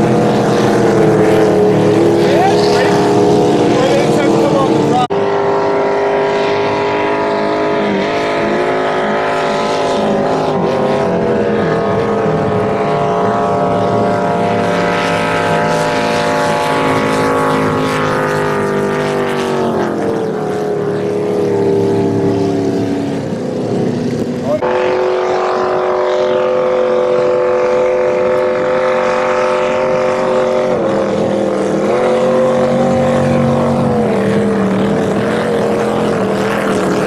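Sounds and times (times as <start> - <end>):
powerboat engines at high revs: 0.0 - 37.0.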